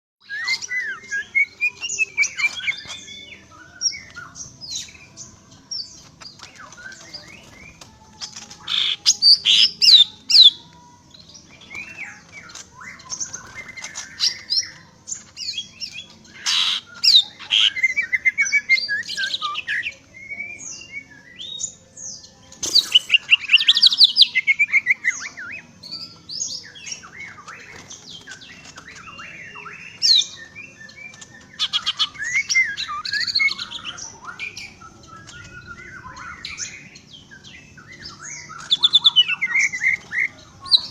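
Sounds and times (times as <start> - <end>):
bird singing whistles and trills: 0.2 - 40.9.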